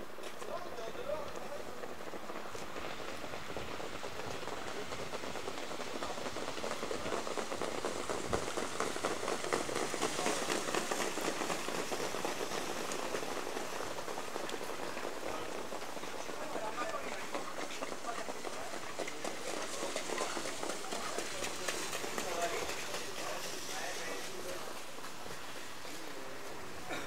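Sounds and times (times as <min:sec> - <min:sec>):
hooves and wheels on wet track: 0:00.0 - 0:27.0.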